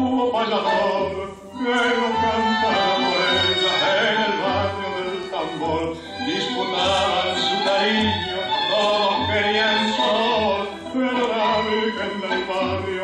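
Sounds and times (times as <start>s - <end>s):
tango music with singing: 0.0s - 13.0s.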